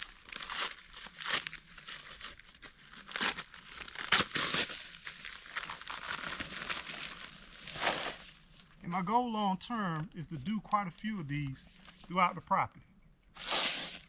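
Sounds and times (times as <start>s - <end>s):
rough scraping and crinkling: 0.0s - 9.2s, 10.1s - 12.3s, 13.3s - 14.0s.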